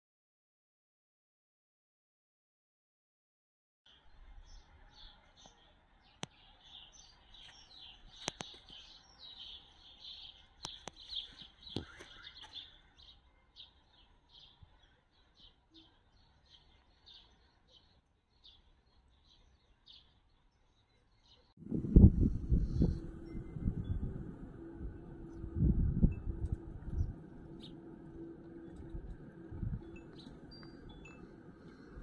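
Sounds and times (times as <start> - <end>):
small birds chirping: 3.9 - 32.0.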